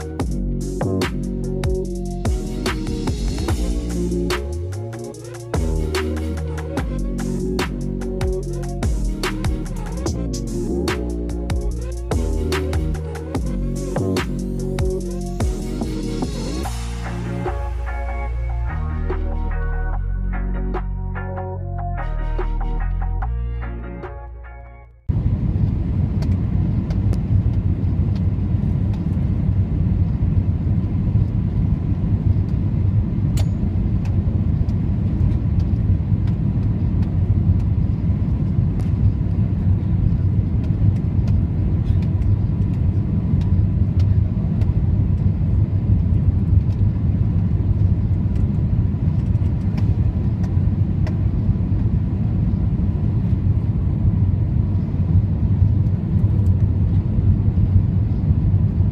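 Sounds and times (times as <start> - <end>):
airplane cabin engine and airflow: 0.0 - 21.8, 25.1 - 58.9.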